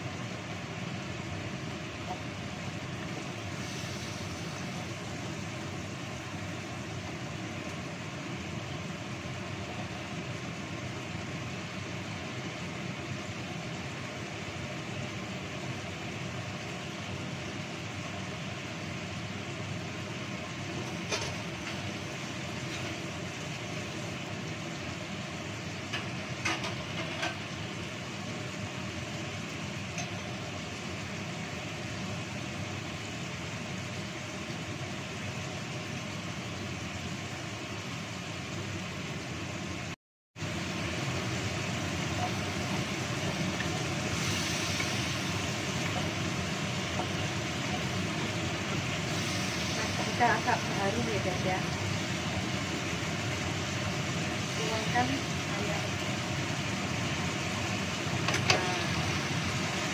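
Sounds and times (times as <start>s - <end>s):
paste sizzling in a wok: 0.0s - 59.9s.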